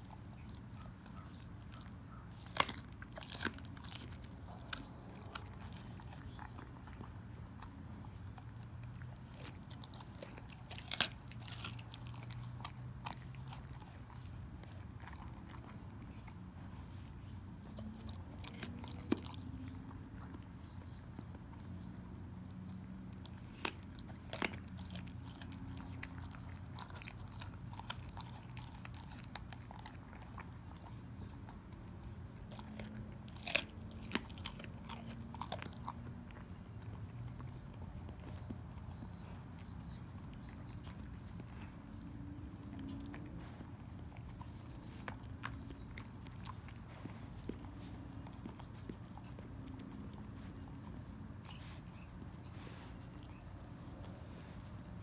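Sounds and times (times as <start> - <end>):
dog chewing on bone: 0.0 - 55.0.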